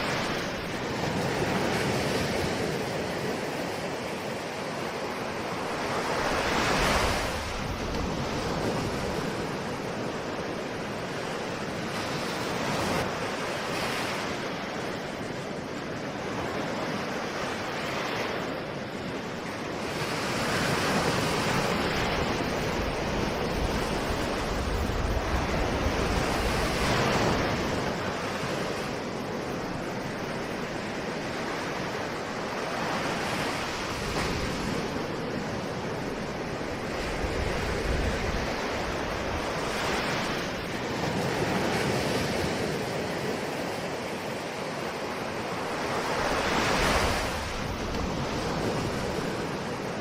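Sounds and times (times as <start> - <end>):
ocean waves breaking on shore: 0.0 - 50.0.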